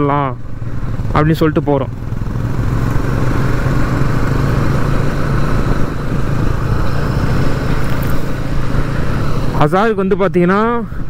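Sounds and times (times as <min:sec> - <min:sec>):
motorcycle engine running: 0:00.0 - 0:10.0
wind and road noise: 0:00.0 - 0:11.0.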